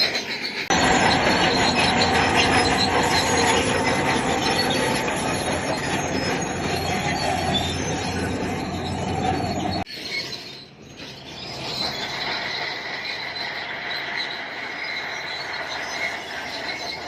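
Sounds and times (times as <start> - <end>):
steel tracks squealing and clanking: 0.0 - 17.0
bulldozer engine running: 0.7 - 9.9, 11.1 - 17.0.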